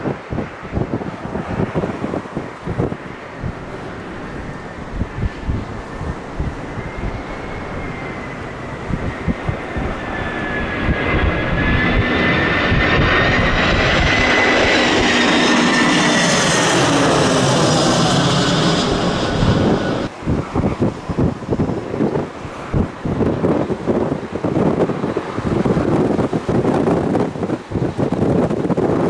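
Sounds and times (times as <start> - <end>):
airliner engines whining: 0.0 - 29.0
wind buffeting microphone: 0.0 - 29.0.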